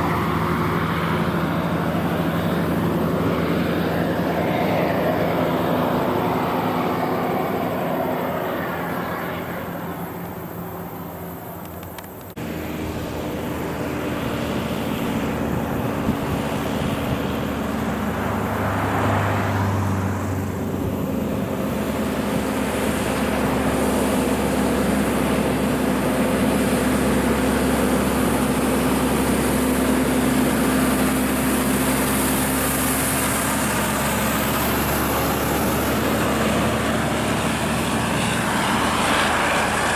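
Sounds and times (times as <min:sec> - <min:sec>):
diesel truck engines droning: 0:00.0 - 0:39.9
truck passing close by: 0:00.0 - 0:39.9.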